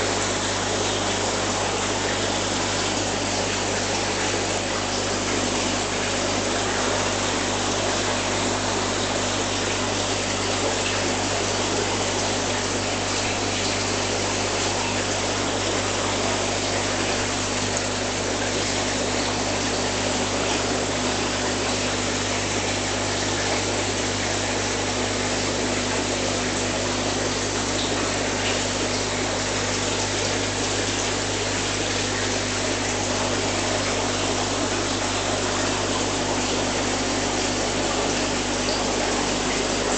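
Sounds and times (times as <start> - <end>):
bubbling water rushing: 0.0 - 39.9.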